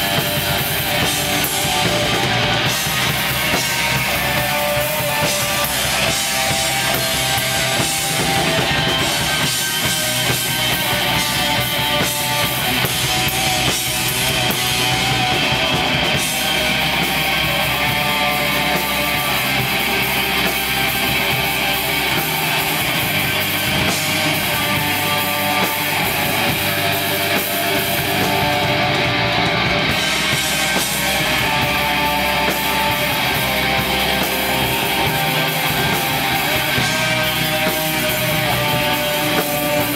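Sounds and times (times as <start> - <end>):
metal band playing live: 0.0 - 39.9.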